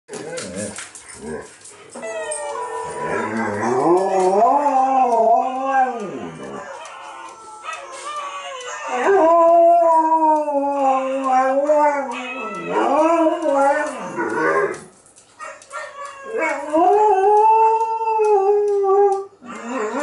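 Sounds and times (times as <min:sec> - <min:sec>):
dog howling: 0:02.0 - 0:14.8, 0:15.7 - 0:20.0.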